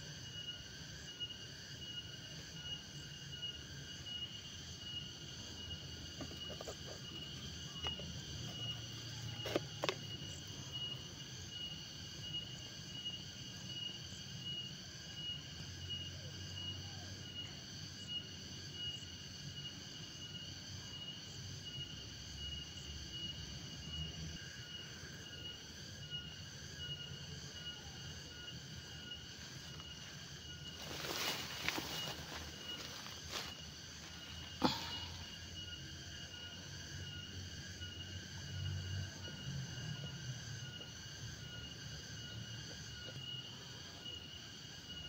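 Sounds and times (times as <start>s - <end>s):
high-pitched insect trill: 0.0s - 45.0s.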